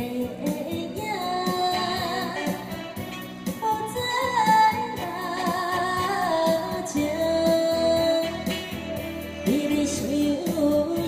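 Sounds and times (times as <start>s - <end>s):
electronic keyboard with beat: 0.0s - 11.0s
saxophone melody: 1.6s - 11.0s.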